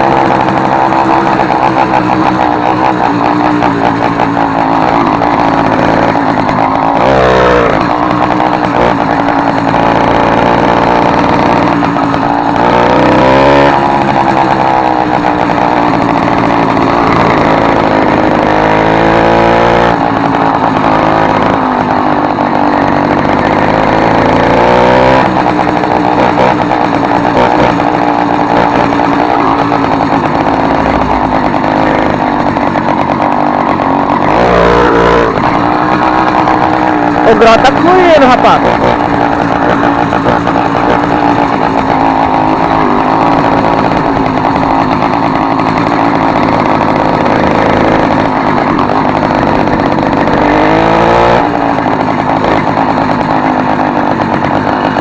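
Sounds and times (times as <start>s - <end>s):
small two-stroke engine running: 0.0s - 55.0s.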